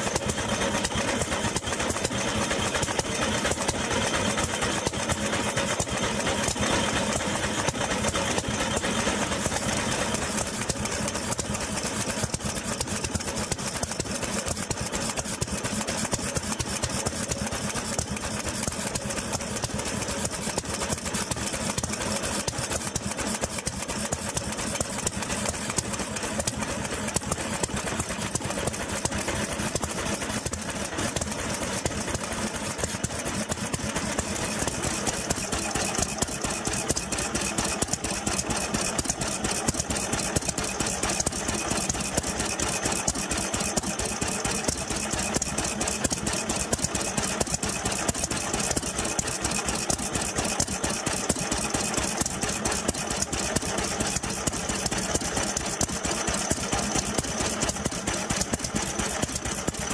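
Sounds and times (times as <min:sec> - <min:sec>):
stationary engines knocking: 0:00.0 - 0:59.9.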